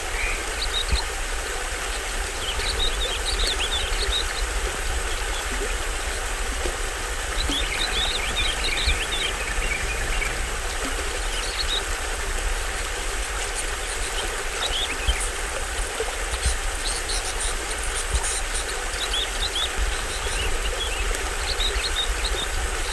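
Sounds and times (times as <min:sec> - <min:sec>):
birds chirping: 0:00.0 - 0:15.5, 0:16.4 - 0:22.9
deep water rumble: 0:00.0 - 0:22.9
water rushing down waterfall: 0:00.0 - 0:22.9.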